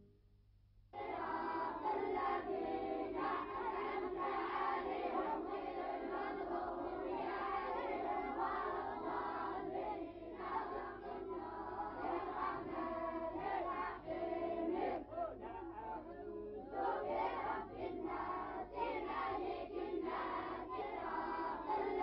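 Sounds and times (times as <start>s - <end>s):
boys and man chanting in unison: 1.0s - 22.0s.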